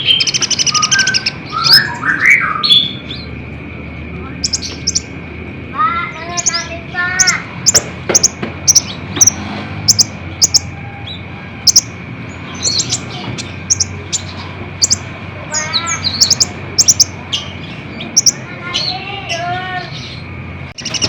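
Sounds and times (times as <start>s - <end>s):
sunbird chirping and twittering: 0.0s - 21.0s.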